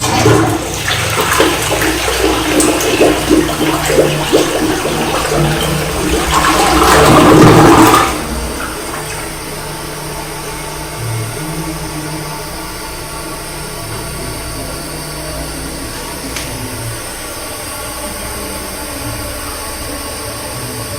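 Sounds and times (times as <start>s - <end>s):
toilet flushing: 0.0s - 20.9s.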